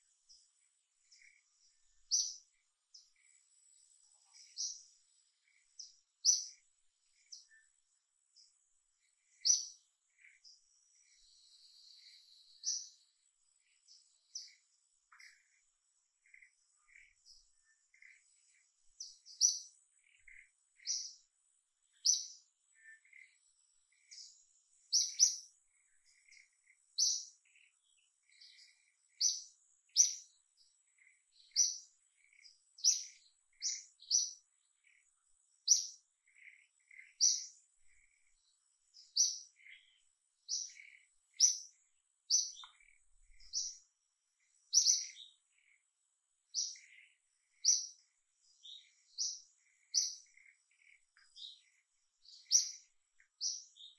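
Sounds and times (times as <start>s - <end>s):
bird chirping: 0.0s - 53.9s.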